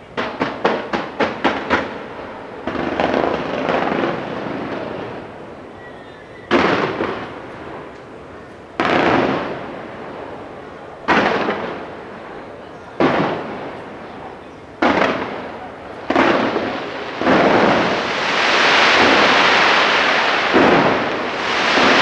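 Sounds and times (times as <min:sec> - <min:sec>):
fireworks bangs and crackling: 0:00.0 - 0:05.8, 0:06.5 - 0:22.0
fireworks booms: 0:00.2 - 0:05.4, 0:06.5 - 0:08.0, 0:08.8 - 0:22.0.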